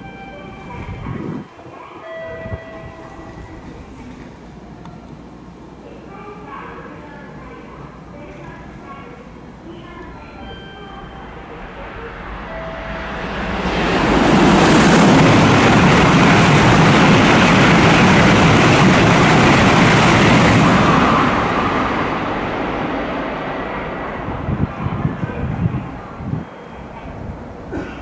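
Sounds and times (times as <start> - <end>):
high-speed train passing: 0.0 - 27.9.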